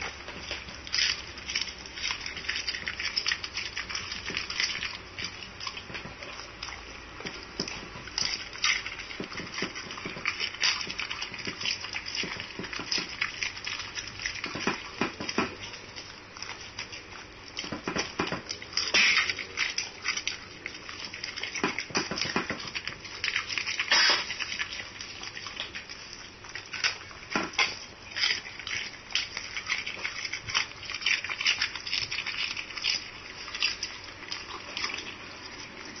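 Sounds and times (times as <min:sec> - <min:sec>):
dog chewing and crunching fish: 0:00.0 - 0:36.0.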